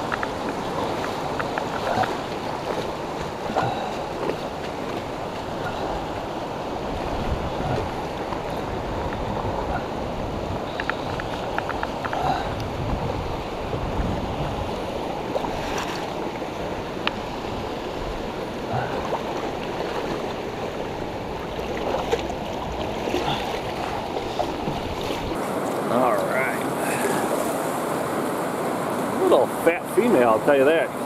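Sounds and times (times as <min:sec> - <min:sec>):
fast stream rushing: 0:00.0 - 0:31.0.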